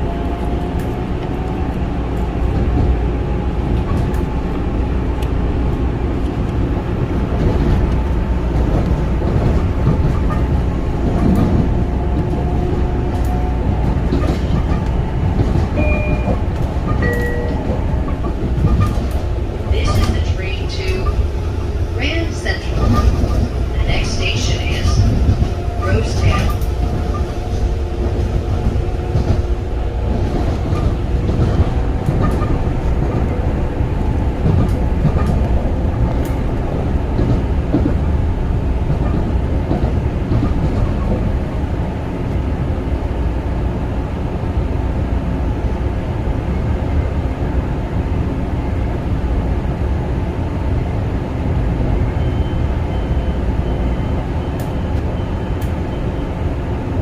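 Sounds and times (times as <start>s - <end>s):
electric train running on track: 0.0s - 57.0s.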